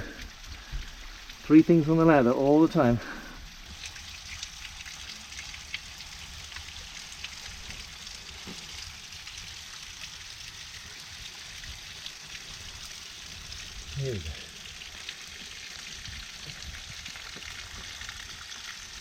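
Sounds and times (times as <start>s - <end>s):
water falling and spraying: 0.0s - 19.0s.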